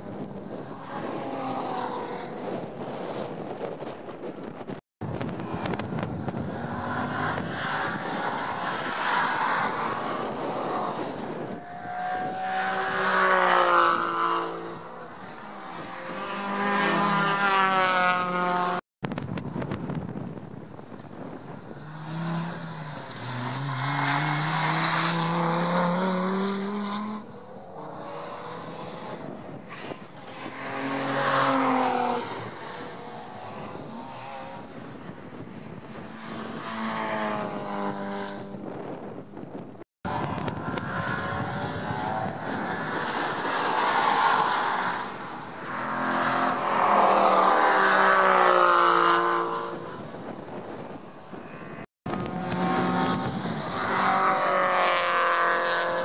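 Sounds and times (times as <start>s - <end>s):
race cars passing: 0.0s - 18.8s, 19.4s - 56.0s.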